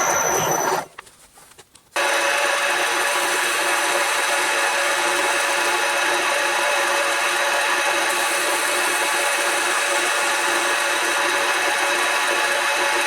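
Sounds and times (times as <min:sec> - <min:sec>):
metal lathe turning wood: 0:00.0 - 0:00.9, 0:02.0 - 0:13.0.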